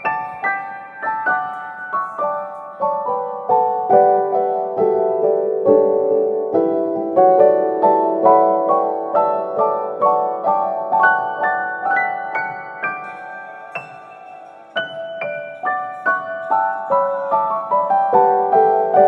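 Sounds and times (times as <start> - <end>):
gentle solo piano piece: 0.0 - 19.0.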